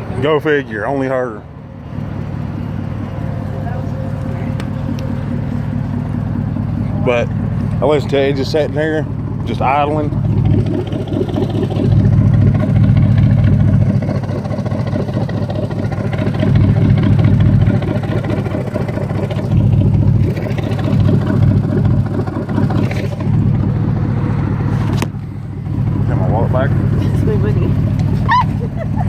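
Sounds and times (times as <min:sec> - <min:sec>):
pickup engine rumbling: 0:00.0 - 0:29.0.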